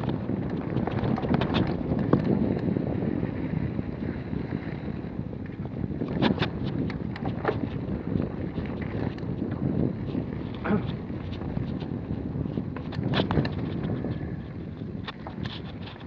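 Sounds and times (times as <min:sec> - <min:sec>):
bike rattling and knocking: 0:00.0 - 0:16.0
wind on microphone: 0:00.0 - 0:16.0.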